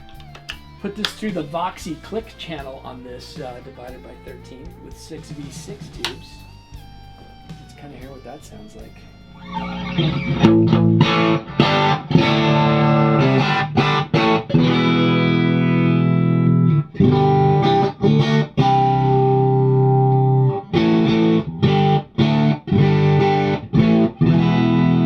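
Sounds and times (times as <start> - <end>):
electric guitar chords ringing: 0.0 - 25.0.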